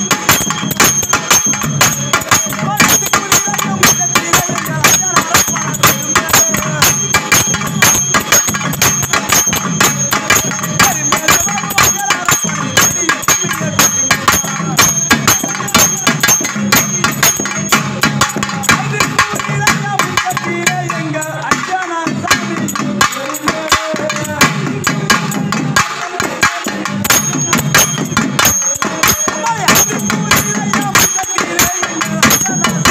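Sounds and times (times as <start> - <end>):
metallic ringing: 0.0 - 32.9
rapid drumbeats: 0.0 - 32.9.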